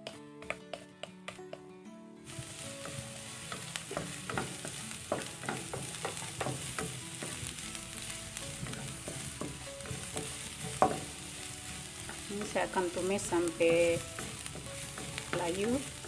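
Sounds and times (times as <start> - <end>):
spatula scraping and tapping pan: 0.0 - 1.4, 2.4 - 7.6, 8.4 - 16.0
garlic sizzling in oil: 2.2 - 16.0.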